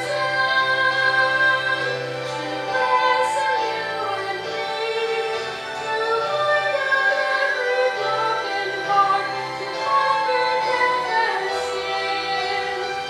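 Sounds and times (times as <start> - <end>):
instrumental accompaniment: 0.0 - 13.0
woman singing slow song: 0.0 - 13.0.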